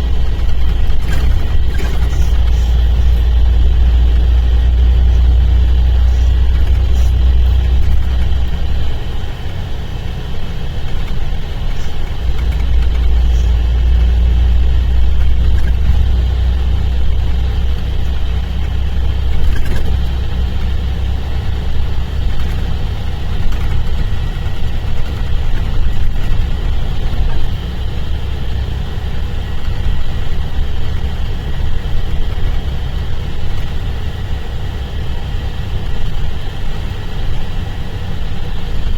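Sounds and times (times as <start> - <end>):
coach diesel engine rumbling: 0.0 - 38.9.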